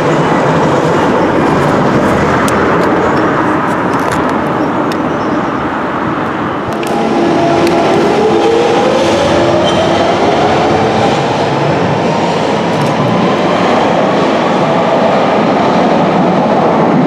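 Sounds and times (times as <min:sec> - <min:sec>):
train hum and rising whine: 0:00.0 - 0:17.0
underground train rumbling: 0:00.0 - 0:17.0.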